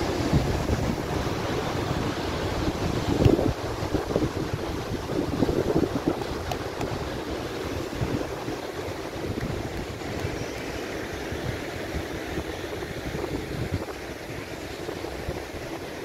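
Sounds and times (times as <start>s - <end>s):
surf breaking on rocky shore: 0.0s - 16.0s
wind buffeting microphone: 0.0s - 16.0s.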